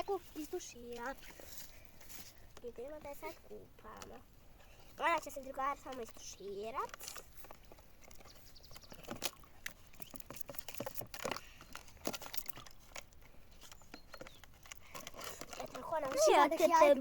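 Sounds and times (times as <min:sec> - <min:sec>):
rustling of handled things: 0:00.0 - 0:17.0.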